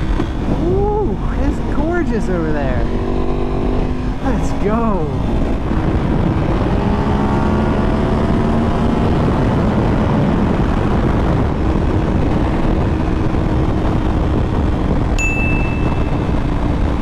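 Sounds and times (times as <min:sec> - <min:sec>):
motorcycle engine accelerating: 0:00.0 - 0:17.0
wind rush on microphone: 0:00.0 - 0:17.0.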